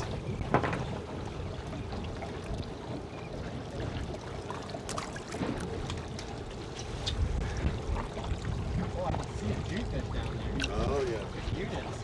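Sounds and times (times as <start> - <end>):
low rumble of wind and sea: 0.0 - 12.0
water trickling and splashing: 0.0 - 12.0.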